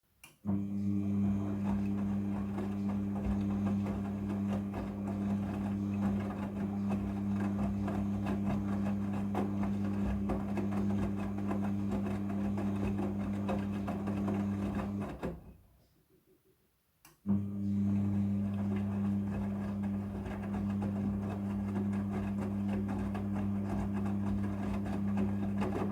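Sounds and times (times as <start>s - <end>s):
washing machine motor hum: 0.4s - 15.6s, 17.3s - 25.9s.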